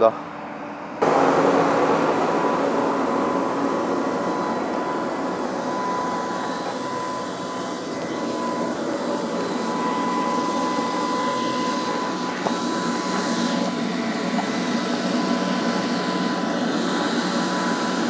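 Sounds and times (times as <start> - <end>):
steady high whine: 0.0 - 18.0.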